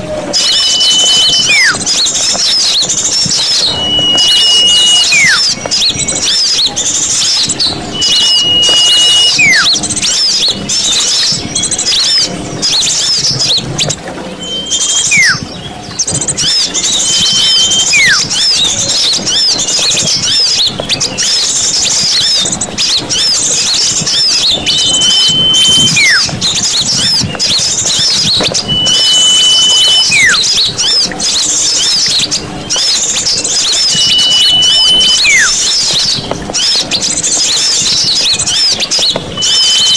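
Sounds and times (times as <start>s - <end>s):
chorus of small birds chattering: 0.0s - 39.9s
bird held level whistle: 0.2s - 39.9s
bird whistle falling in pitch: 0.2s - 39.9s.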